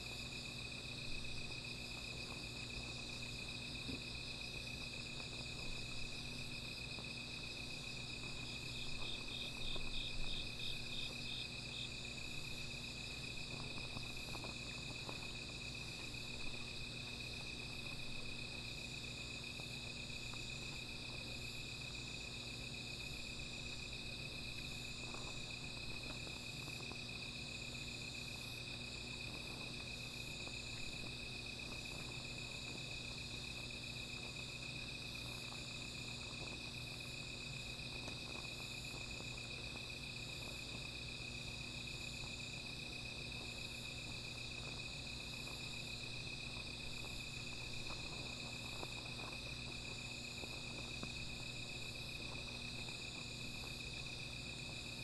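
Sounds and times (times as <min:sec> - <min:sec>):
crickets trilling: 0:00.0 - 0:55.0
insect rapid chirps: 0:00.0 - 0:55.0.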